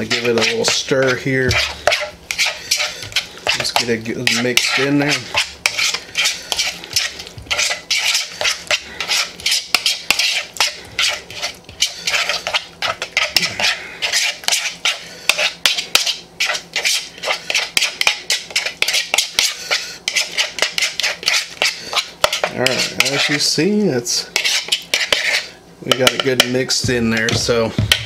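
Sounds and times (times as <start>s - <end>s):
utensil scraping plastic bowl: 0.0s - 28.0s.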